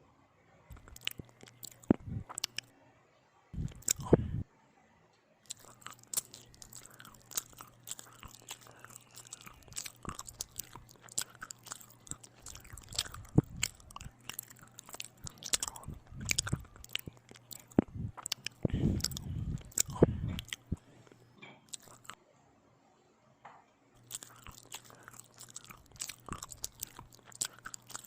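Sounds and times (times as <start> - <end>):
chewing and biting bread: 0.7 - 2.7, 3.6 - 4.4, 5.5 - 22.2, 24.0 - 28.0
swallowing: 0.7 - 2.7, 3.6 - 4.4, 5.5 - 22.2, 24.0 - 28.0.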